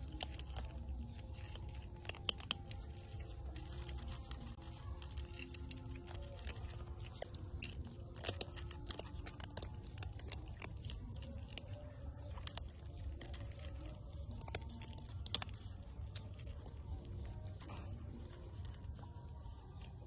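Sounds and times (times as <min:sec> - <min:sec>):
kittens crunching dry kibble: 0:00.0 - 0:20.0.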